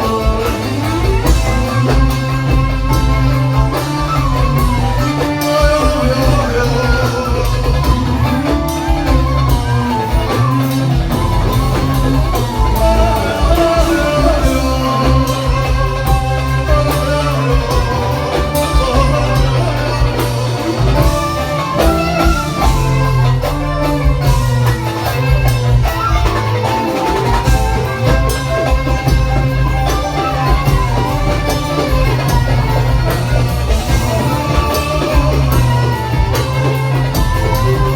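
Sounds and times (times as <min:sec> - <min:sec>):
live band playing pop song: 0:00.0 - 0:37.9.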